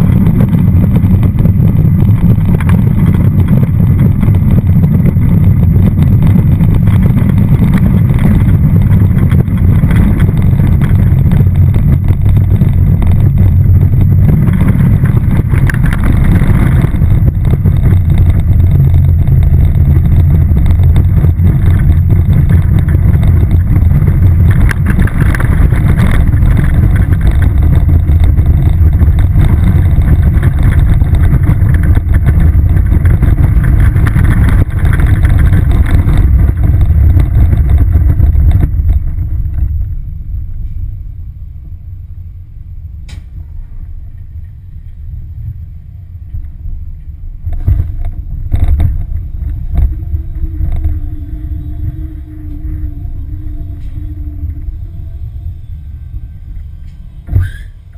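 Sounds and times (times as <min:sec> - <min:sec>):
roller coaster wheels rumbling: 0:00.0 - 0:57.9
wind rushing past microphone: 0:00.0 - 0:57.9.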